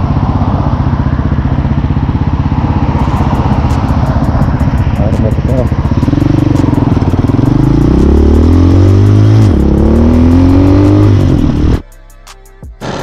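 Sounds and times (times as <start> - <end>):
dirt bike engine accelerating: 0.0 - 11.8.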